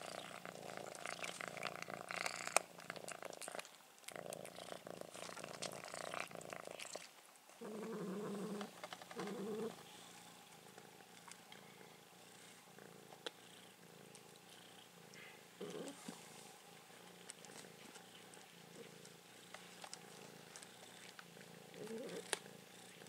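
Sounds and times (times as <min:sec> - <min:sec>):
cat growling: 0:00.0 - 0:23.0
cats purring: 0:00.0 - 0:23.0
cats crunching dry kibble: 0:00.1 - 0:13.4, 0:14.0 - 0:23.0.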